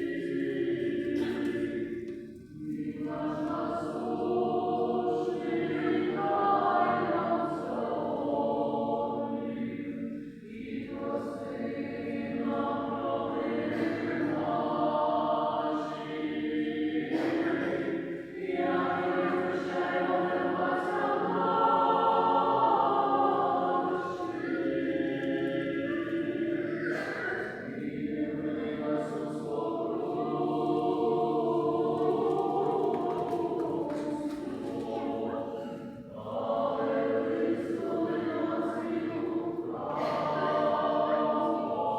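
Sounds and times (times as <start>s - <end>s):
choir chanting unaccompanied: 0.0s - 41.9s.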